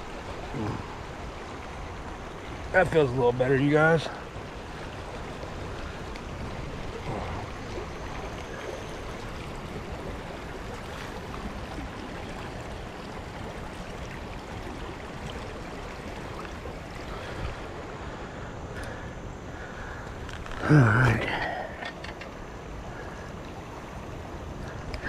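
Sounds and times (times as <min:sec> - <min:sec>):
river water running over rocks: 0:00.0 - 0:25.0.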